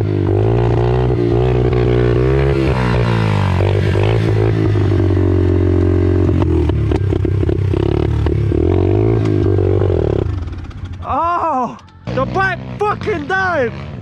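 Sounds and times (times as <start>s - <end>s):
pit bike engine revving: 0.0s - 14.0s.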